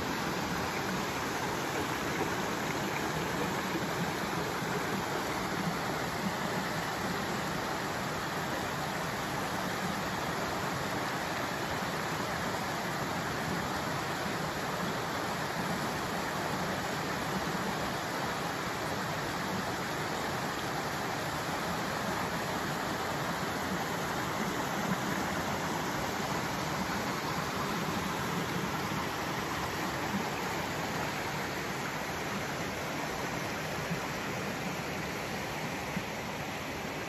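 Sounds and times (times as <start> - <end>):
creek water rushing over stones: 0.0 - 37.0.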